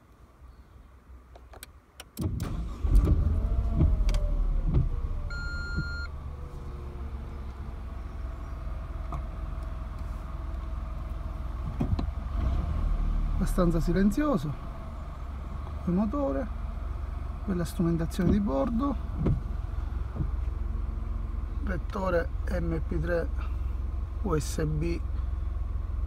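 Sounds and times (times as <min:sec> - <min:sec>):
car engine starting and idling: 0:01.6 - 0:26.0.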